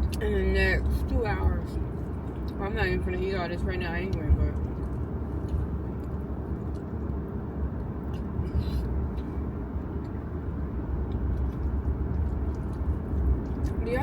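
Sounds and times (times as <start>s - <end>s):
road noise: 0.0s - 14.0s
truck engine rumble: 0.0s - 14.0s.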